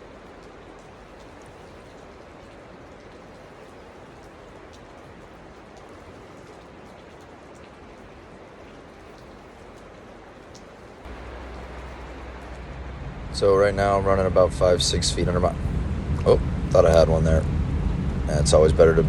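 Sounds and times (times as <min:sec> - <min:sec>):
stream water rushing: 0:00.0 - 0:17.4
droplets splashing: 0:00.0 - 0:18.8.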